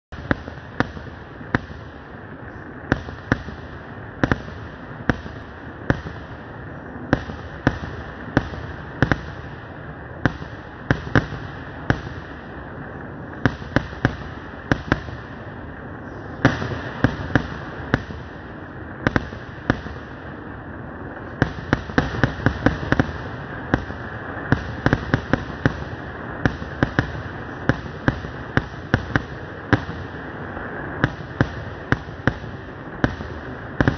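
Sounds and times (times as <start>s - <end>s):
continuous hiss: 0.0s - 33.9s
fireworks banging: 0.1s - 33.9s.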